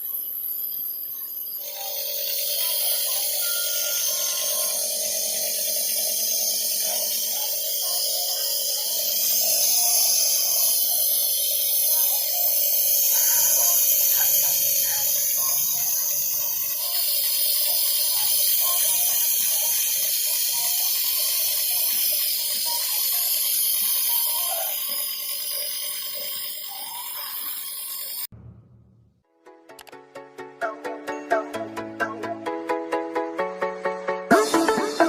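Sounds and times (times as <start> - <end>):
nebulizer humming and hissing: 0.0 - 28.3.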